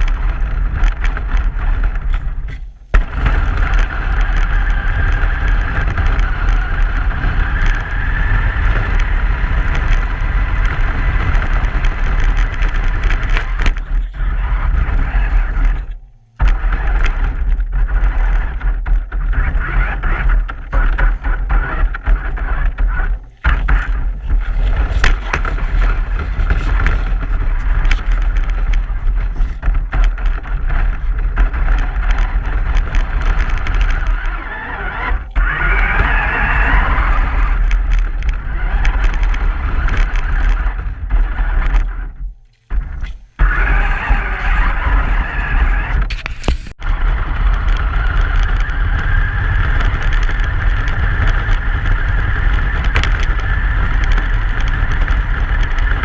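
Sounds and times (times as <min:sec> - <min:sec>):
knocks and rattles: 0:00.0 - 0:56.0
truck engine rumble: 0:00.0 - 0:56.0.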